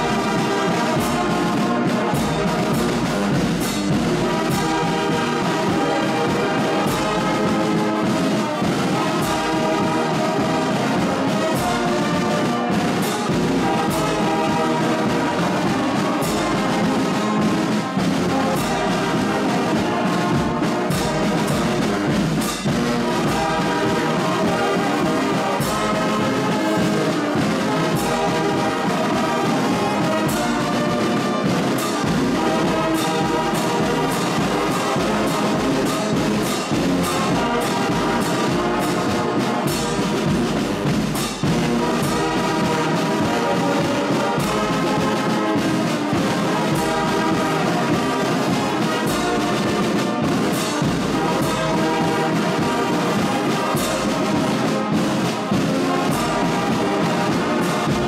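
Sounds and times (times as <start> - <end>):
brass band playing chords: 0.0 - 58.0
drum strokes: 0.0 - 58.0.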